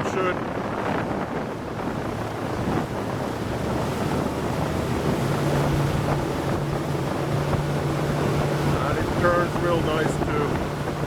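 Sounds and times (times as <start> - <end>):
boat engine droning: 0.0 - 11.0
rushing wind and water: 0.0 - 11.0
wind buffeting microphone: 0.0 - 11.0.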